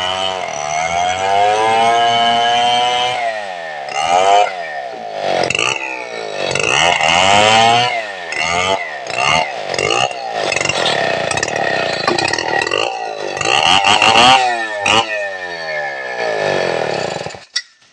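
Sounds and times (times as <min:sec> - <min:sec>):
chainsaw cutting a log: 0:00.0 - 0:17.6.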